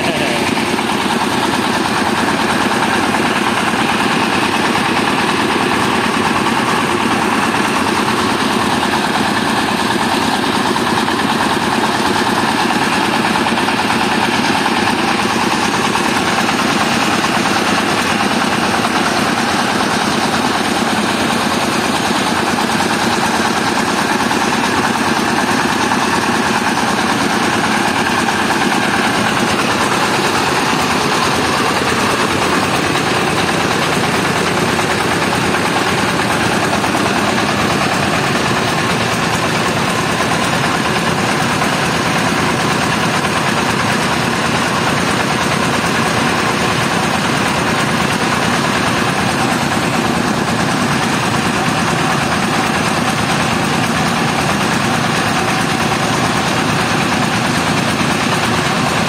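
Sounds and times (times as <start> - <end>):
diesel engine driving rice mill: 0.0 - 59.0.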